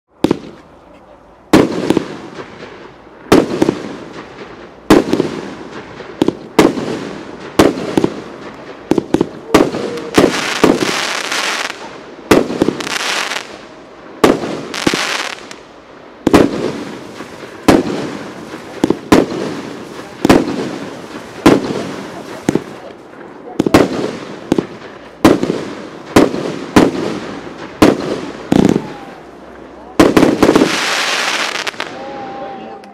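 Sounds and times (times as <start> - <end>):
firework bangs: 0.2 - 0.7, 1.5 - 32.6
crackling firework bursts: 1.5 - 32.6.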